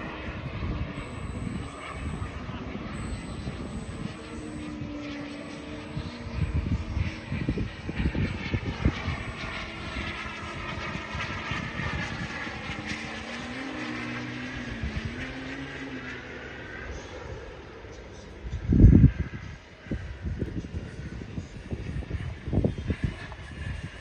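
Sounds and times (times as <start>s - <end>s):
wind buffeting microphone: 0.0s - 15.4s, 18.4s - 24.0s
turboprop engines whining: 0.0s - 24.0s.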